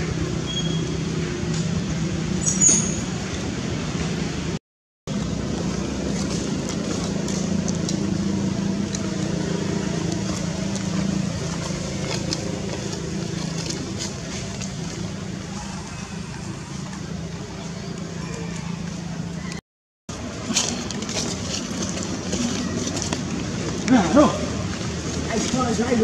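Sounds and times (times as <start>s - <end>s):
traffic drone: 0.0s - 26.0s.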